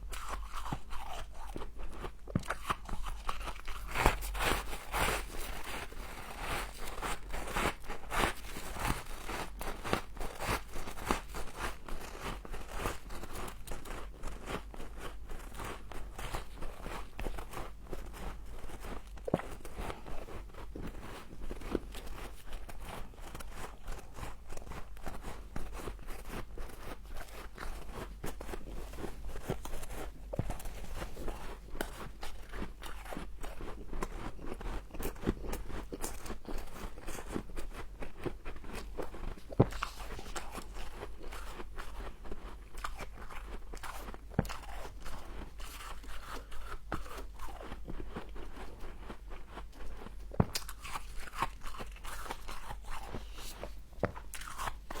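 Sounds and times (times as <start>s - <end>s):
crunching frost being chewed: 0.0s - 55.0s.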